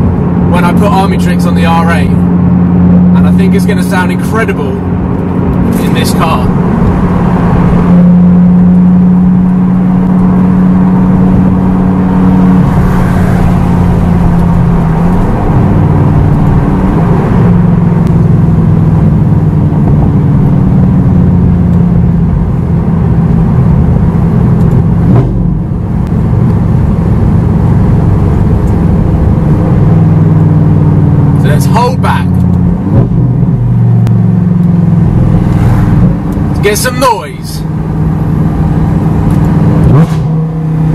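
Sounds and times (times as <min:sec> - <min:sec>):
sports car engine from inside cabin: 0:00.0 - 0:40.9.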